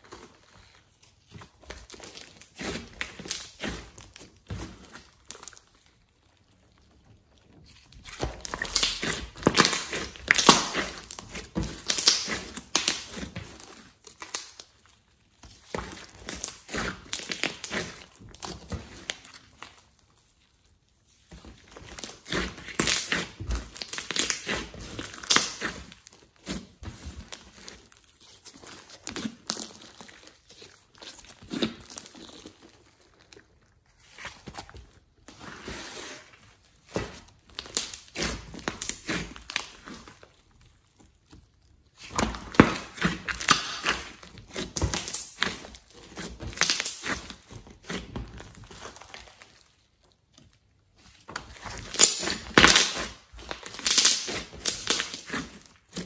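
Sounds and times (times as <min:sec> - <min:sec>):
slime clicking and crackling: 0:00.0 - 0:35.5, 0:36.8 - 0:56.0.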